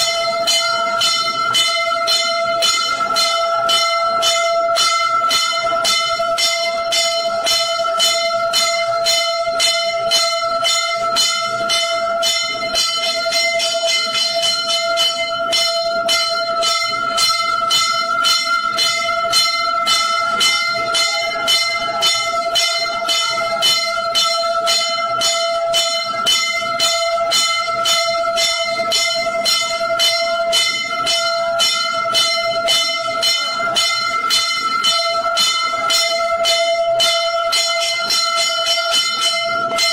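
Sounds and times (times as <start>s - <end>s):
continuous ringing tone: 0.0s - 39.9s
temple bells struck rapidly: 0.0s - 39.9s.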